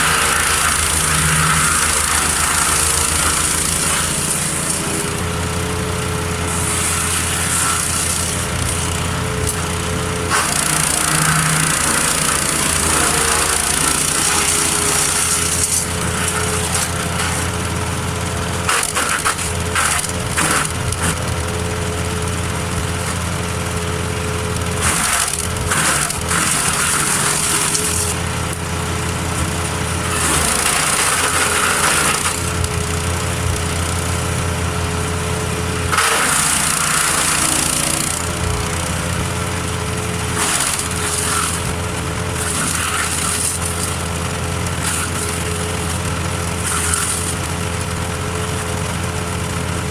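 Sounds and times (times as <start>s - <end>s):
wood chipper running: 0.0s - 49.9s.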